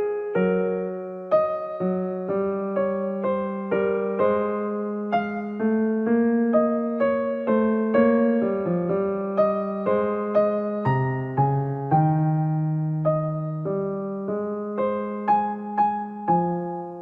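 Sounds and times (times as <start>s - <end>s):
electric piano melody: 0.0s - 17.0s.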